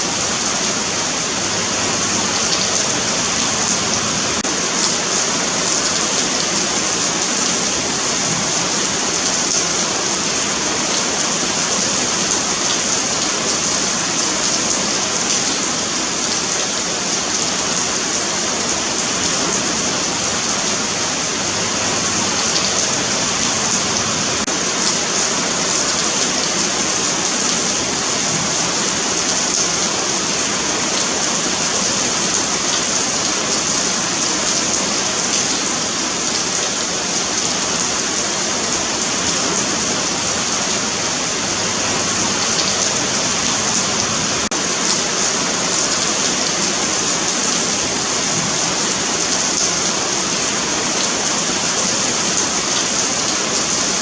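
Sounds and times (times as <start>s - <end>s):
rain on pavement: 0.0s - 54.0s.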